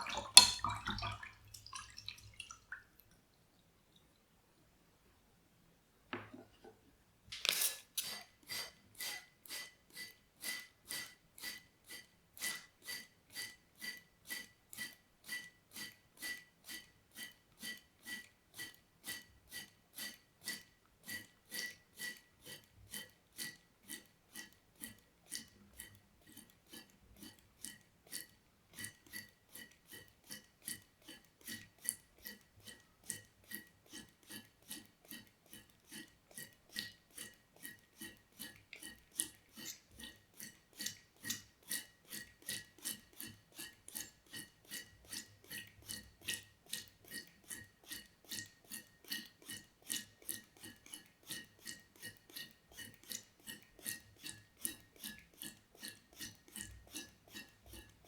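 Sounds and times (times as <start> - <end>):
wet water strokes: 0.0 - 4.2, 7.4 - 58.0.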